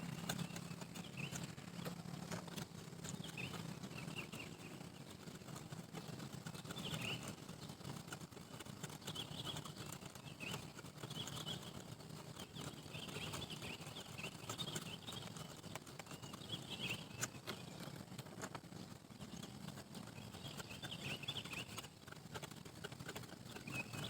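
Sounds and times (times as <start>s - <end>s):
low steady rumble: 0.0s - 24.0s
small birds chirping: 0.0s - 24.0s.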